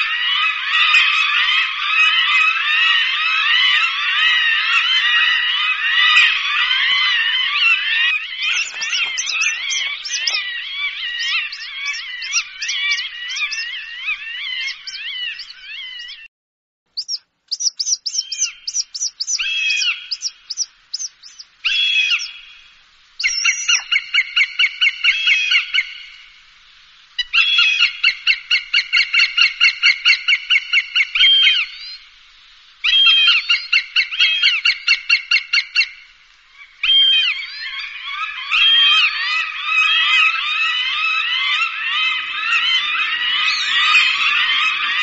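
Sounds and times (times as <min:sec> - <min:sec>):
hawk calls: 0:00.0 - 0:16.3, 0:17.0 - 0:26.2, 0:27.2 - 0:32.0, 0:32.8 - 0:36.0, 0:36.6 - 0:45.0.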